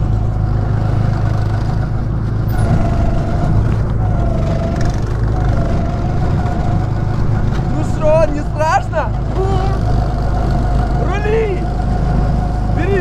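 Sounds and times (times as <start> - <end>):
go-kart engines droning: 0.0 - 13.0
wavering engine whine: 0.0 - 13.0.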